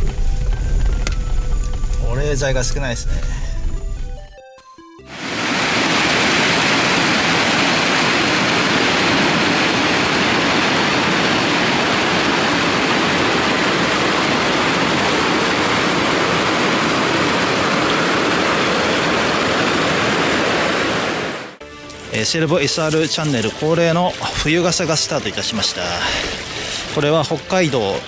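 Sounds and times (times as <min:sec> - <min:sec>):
stream water rushing: 0:05.1 - 0:28.0.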